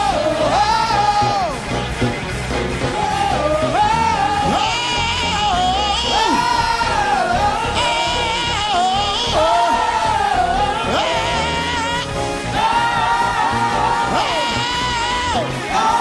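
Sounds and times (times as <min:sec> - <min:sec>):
gospel band playing: 0:00.0 - 0:16.0
person singing wordless notes: 0:02.9 - 0:16.0.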